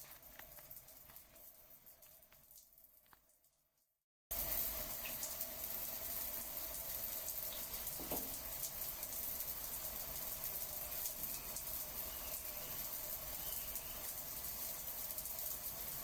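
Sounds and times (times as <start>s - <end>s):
running water: 0.0s - 3.4s, 4.3s - 16.0s.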